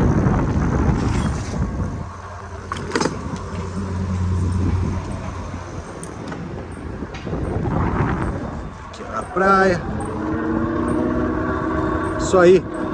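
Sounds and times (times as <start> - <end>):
low engine hum: 0.0 - 12.9
motor vehicle passing: 0.0 - 12.9.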